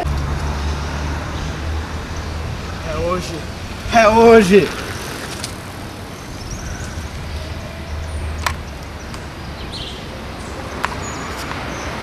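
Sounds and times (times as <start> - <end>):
street rushing noise: 0.0 - 12.0.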